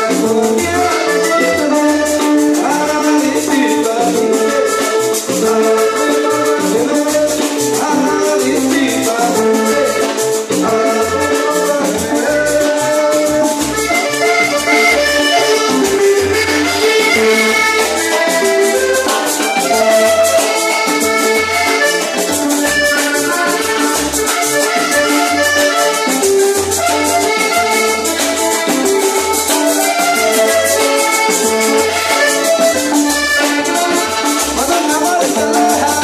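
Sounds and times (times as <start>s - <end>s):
accordion: 0.0s - 36.0s
rattling percussion: 0.0s - 36.0s.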